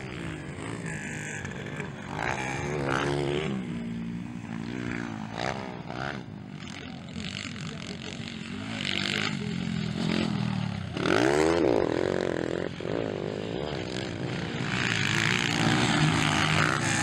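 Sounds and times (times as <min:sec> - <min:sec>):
dirt bike engines racing: 0:00.0 - 0:17.0.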